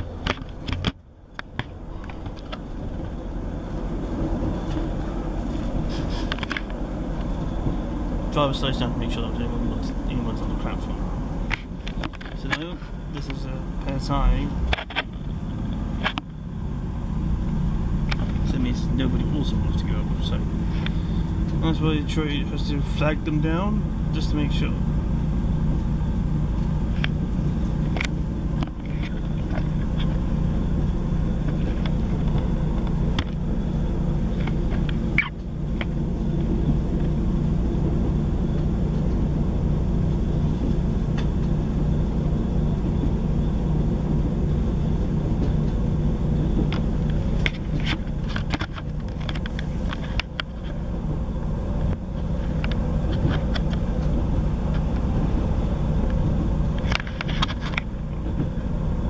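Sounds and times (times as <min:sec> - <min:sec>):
diesel train engine droning: 0:00.0 - 0:59.0.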